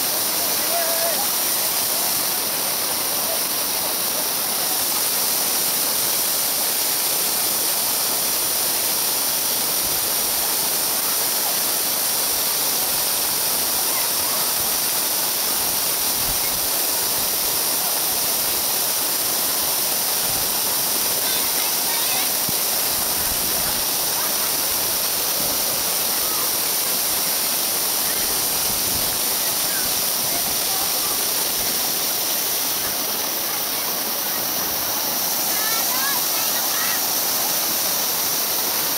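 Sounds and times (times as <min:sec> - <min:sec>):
waterfall pouring into pool: 0:00.0 - 0:38.9.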